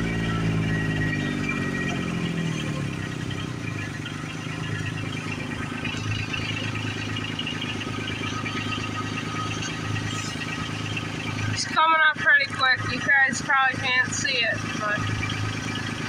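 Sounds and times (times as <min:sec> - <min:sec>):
combine harvester engine running: 0:00.0 - 0:16.0.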